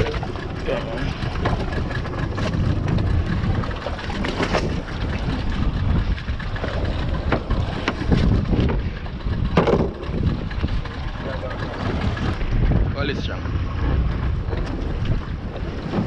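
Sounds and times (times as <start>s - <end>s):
sea washing around boat: 0.0s - 16.0s
wind buffeting microphone: 0.0s - 16.0s.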